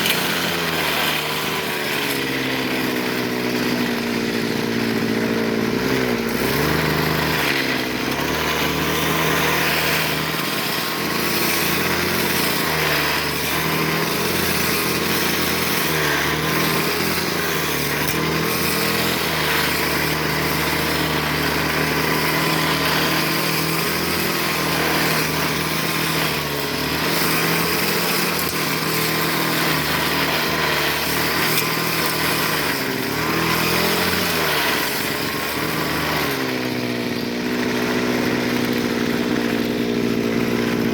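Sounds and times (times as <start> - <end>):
brush cutter engine: 0.0 - 40.9.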